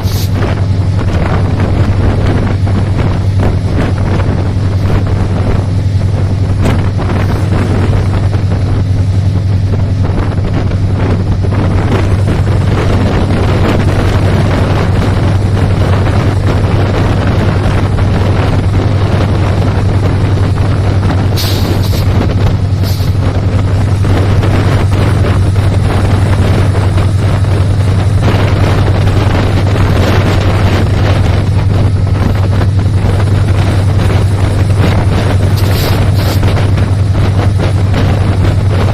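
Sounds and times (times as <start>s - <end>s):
moving train rumble: 0.0s - 38.9s
wind buffeting microphone: 0.0s - 38.9s.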